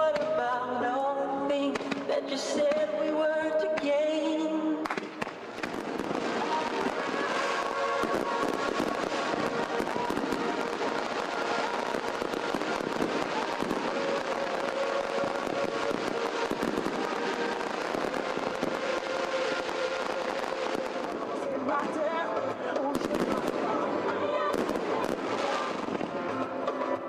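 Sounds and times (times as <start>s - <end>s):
music playing: 0.0s - 27.0s
fireworks bangs and crackling: 1.6s - 3.0s, 3.7s - 27.0s.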